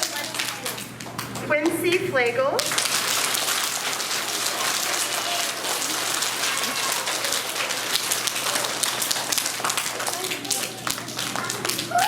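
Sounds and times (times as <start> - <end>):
children applauding: 0.0 - 1.4, 2.6 - 12.0.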